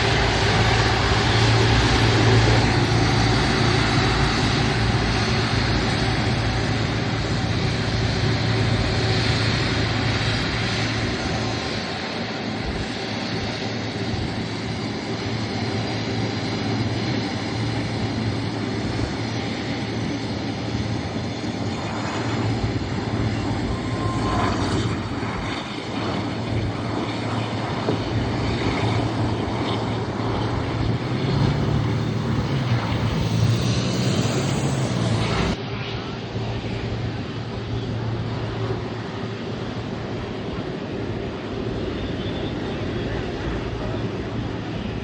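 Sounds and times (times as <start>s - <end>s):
airliner engines running: 0.0s - 45.0s
steady whining tones: 0.0s - 45.0s.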